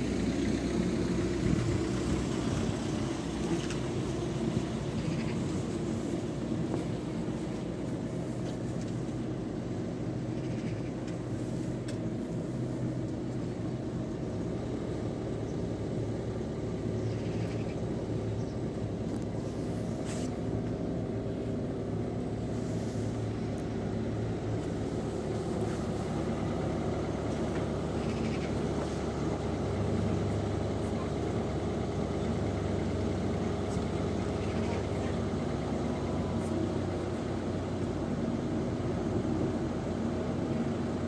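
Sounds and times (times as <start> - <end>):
engines idling hum: 0.0 - 41.0.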